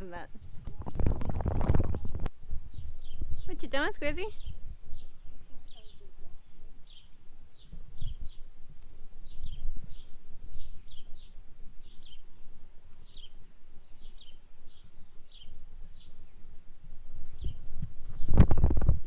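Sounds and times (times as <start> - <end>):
small bird chirping: 0.3 - 8.5, 9.2 - 16.5, 17.4 - 18.9.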